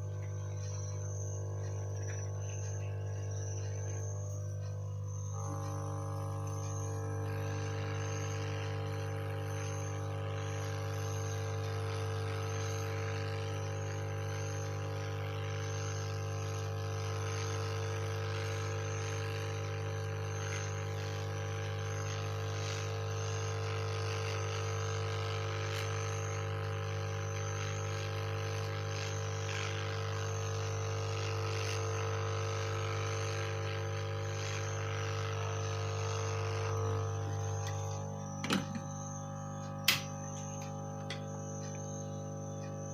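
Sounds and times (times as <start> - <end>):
hot-air station blowing: 0.0 - 42.9.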